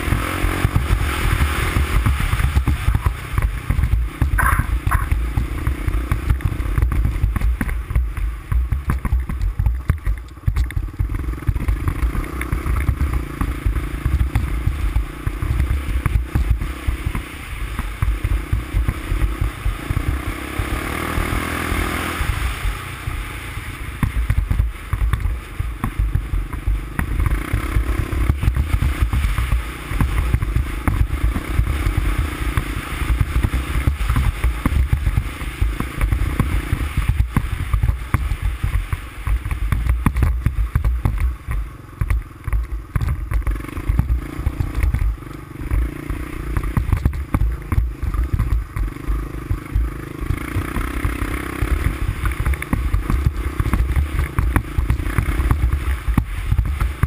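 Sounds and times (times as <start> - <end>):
quad bike engine rumbling: 0.0 - 57.0.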